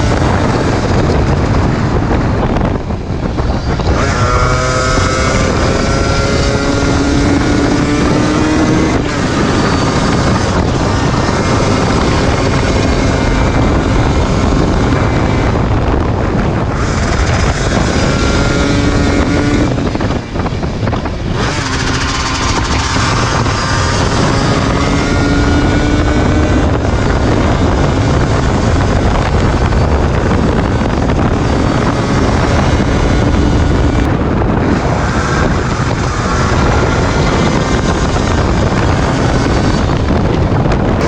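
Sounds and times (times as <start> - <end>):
two-stroke motorcycle engine revving: 0.0 - 41.0
wind buffeting microphone: 0.0 - 41.0.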